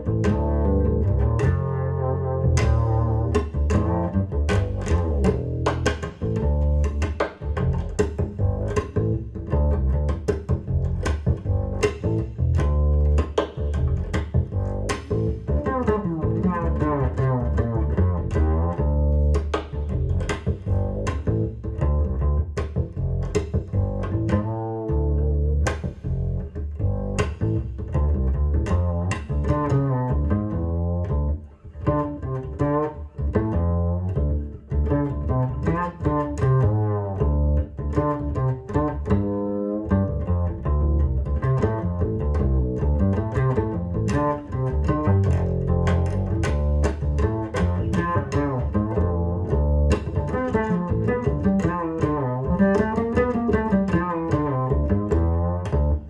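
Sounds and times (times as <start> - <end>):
plucked double bass music: 0.0 - 56.0.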